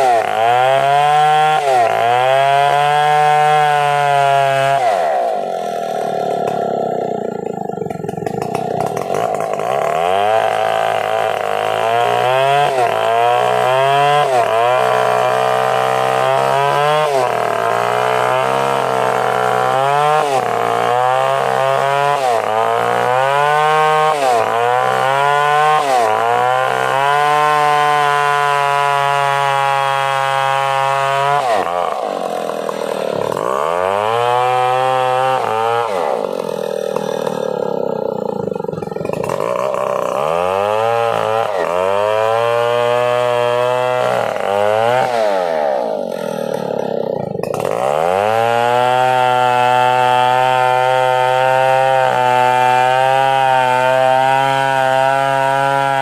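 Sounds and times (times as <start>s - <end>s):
chainsaw running hard: 0.0s - 56.0s.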